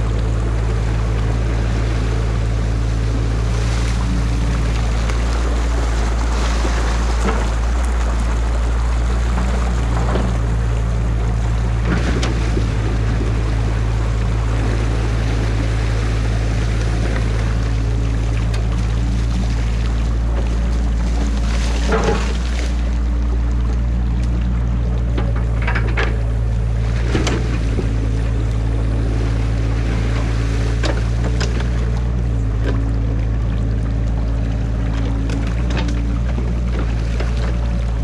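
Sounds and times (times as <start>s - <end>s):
diesel engine humming: 0.0s - 38.0s
stream water rushing: 0.0s - 38.0s.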